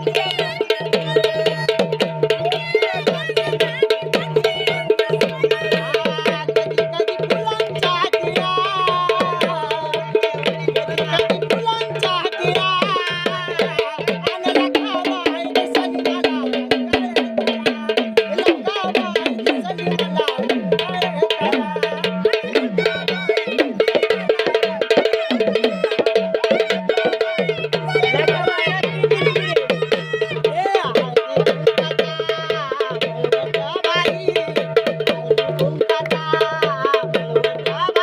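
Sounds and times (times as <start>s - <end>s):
stick-played drums beating: 0.0s - 38.0s.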